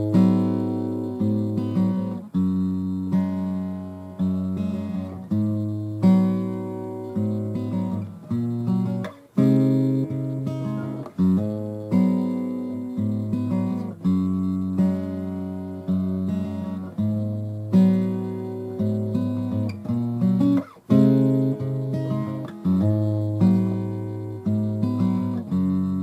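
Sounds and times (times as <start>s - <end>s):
guitar chords ringing: 0.0s - 26.0s.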